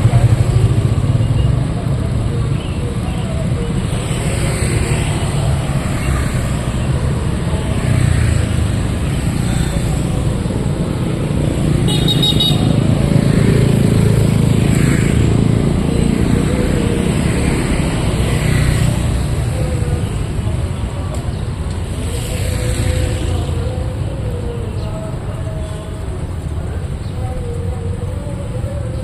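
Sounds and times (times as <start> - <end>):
passing traffic rumble: 0.0 - 29.0.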